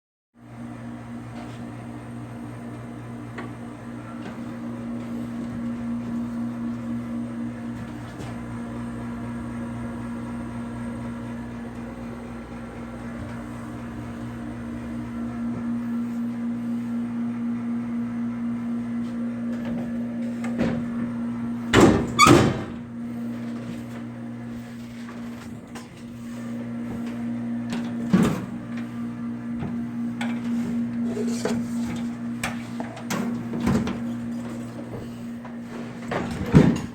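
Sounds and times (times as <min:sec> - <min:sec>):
coffee machine humming: 0:00.4 - 0:36.9.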